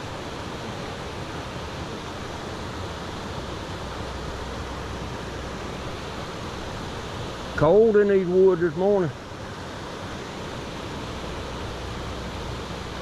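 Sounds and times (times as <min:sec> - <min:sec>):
creek water running: 0:00.0 - 0:13.0
wind: 0:00.0 - 0:13.0.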